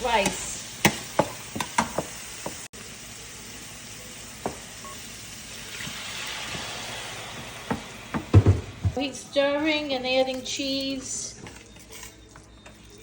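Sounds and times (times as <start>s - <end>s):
rice sizzling in a pot: 0.0s - 13.0s.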